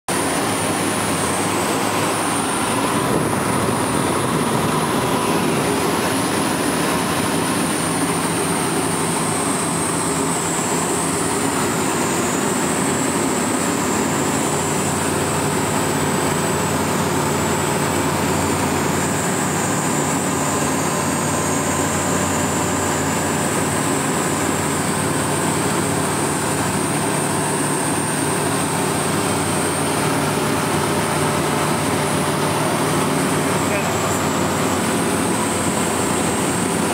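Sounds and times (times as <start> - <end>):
light aircraft engine and propeller: 0.1 - 36.9.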